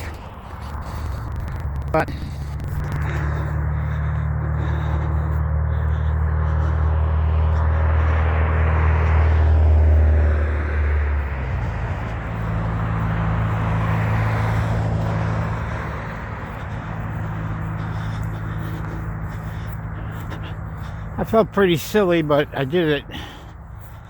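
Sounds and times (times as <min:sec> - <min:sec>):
heavy vehicle engine drone: 0:00.0 - 0:24.0
vehicles passing: 0:00.0 - 0:24.0.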